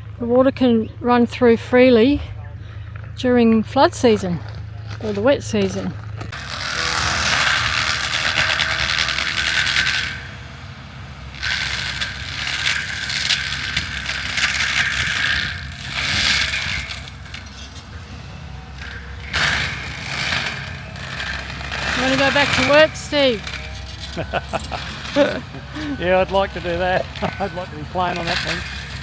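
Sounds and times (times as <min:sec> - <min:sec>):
machine engine drone: 0:00.0 - 0:29.0
mulcher shredding trees: 0:00.0 - 0:29.0.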